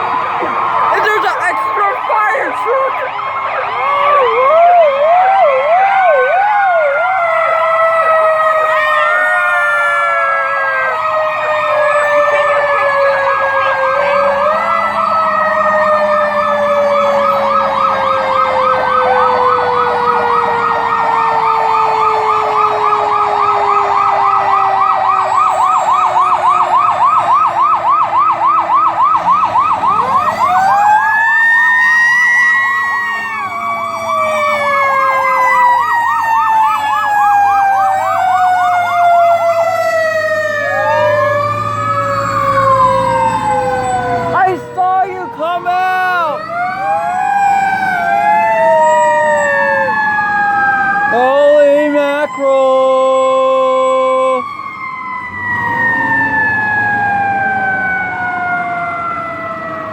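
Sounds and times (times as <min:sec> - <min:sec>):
emergency vehicle sirens: 0:00.0 - 0:59.9.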